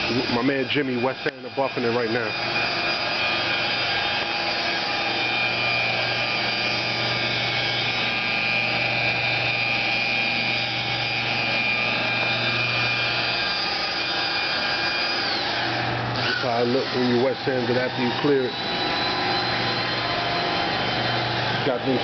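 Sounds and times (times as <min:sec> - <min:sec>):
electric polisher whining: 0:00.0 - 0:22.0.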